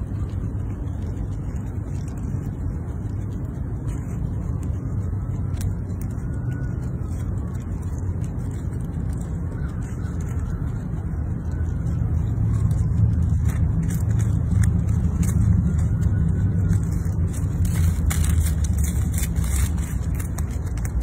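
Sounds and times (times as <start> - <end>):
low rumble: 0.0 - 21.0
squirrel digging in leaves: 0.0 - 21.0.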